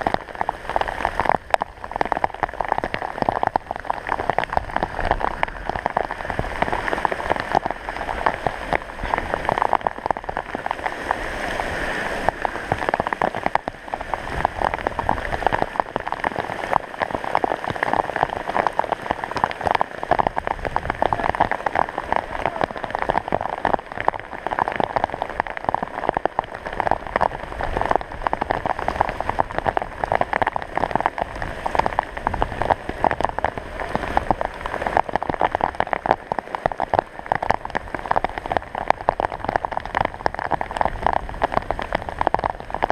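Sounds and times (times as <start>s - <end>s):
heavy rain: 0.0s - 42.9s
raindrops hitting a tarp: 0.0s - 42.9s.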